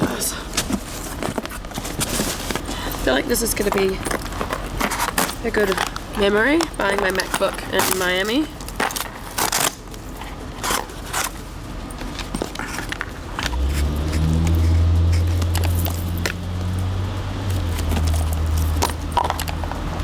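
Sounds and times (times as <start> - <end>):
low mechanical hum: 0.0 - 20.0
objects clicking and rattling: 0.5 - 20.0.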